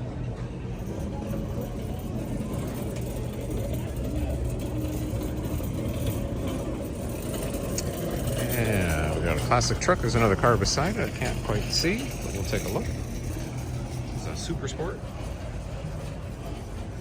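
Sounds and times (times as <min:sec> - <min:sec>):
people's voices: 0:00.0 - 0:15.6
vehicle engine rumbling: 0:00.0 - 0:17.0.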